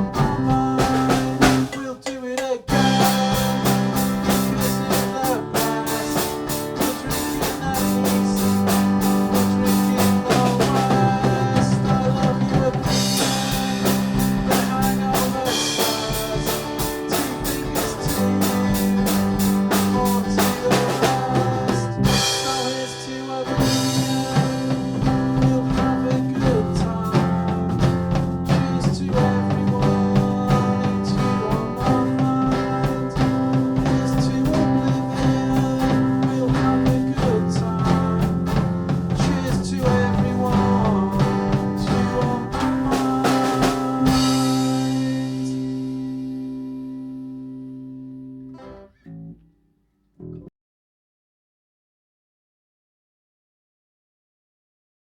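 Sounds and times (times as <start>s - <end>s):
drum kit beat: 0.0s - 46.4s
instrumental band playing: 0.0s - 46.4s.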